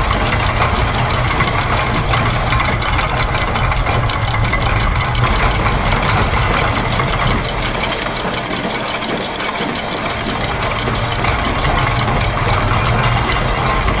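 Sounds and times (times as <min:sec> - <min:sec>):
clockwork springs: 0:00.0 - 0:14.0
gears clattering: 0:00.0 - 0:14.0
low machine hum: 0:00.0 - 0:14.0
press machine: 0:00.0 - 0:14.0
ratchets: 0:00.0 - 0:14.0
sewing machine: 0:00.0 - 0:14.0.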